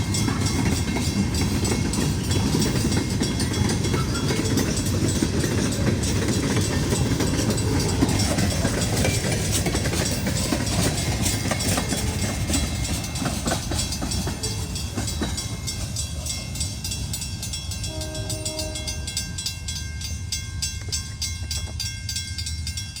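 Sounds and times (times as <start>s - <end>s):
train rumbling past: 0.0s - 23.0s
wheels clicking over rail joints: 0.0s - 23.0s.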